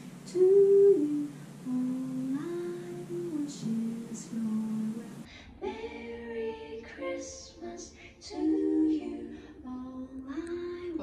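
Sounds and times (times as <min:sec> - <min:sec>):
woman singing slow melody: 0:00.0 - 0:11.0.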